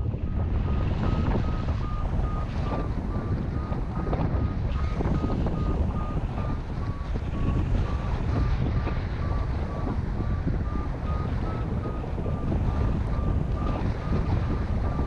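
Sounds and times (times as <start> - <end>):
wind rushing over microphone: 0.0 - 15.0
variometer beeping: 0.2 - 15.0.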